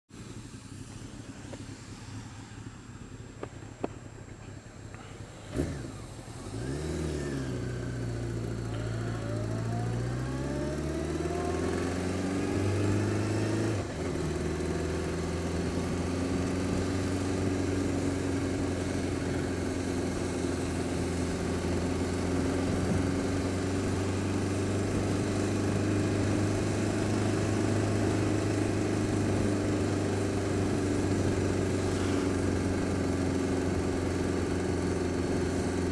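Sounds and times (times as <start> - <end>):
motorcycle engine starting and idling: 0.2 - 35.9.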